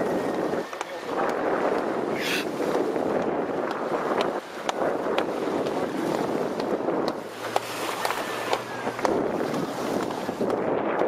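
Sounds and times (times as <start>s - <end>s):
low engine hum: 0.0s - 11.0s
water rushing past hull: 0.0s - 11.0s
wind on microphone: 0.0s - 11.0s.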